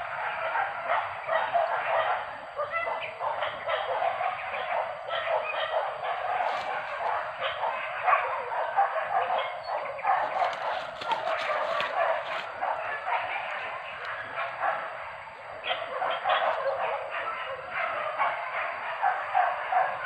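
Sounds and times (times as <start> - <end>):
dogs barking: 0.0 - 20.0.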